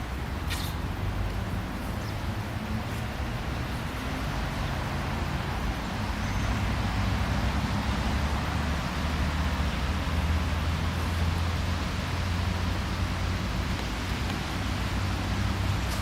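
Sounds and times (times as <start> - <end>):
road traffic rumble: 0.0 - 16.0
vehicle approaching: 0.0 - 16.0.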